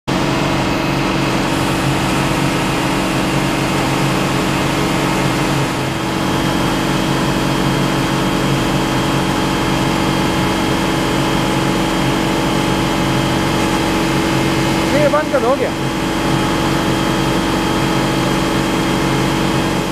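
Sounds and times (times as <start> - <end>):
diesel truck engine running: 0.1 - 19.9
water jet rushing hiss: 1.2 - 19.9.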